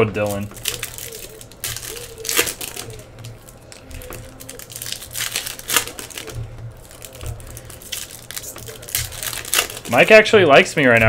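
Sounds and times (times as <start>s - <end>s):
cards and foil wrapper rustling: 0.0s - 11.0s.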